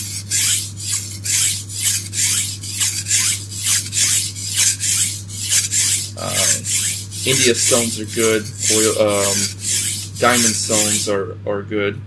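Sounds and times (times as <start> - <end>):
knife rasping on sharpening stone: 0.0 - 11.1.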